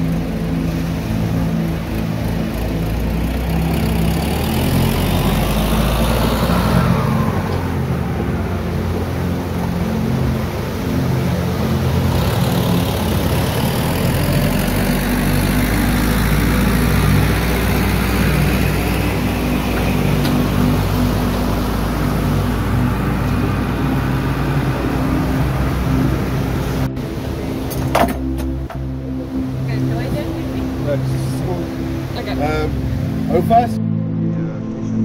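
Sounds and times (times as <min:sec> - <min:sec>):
continuous rushing noise: 0:00.0 - 0:33.8
boat engine droning: 0:00.0 - 0:35.0.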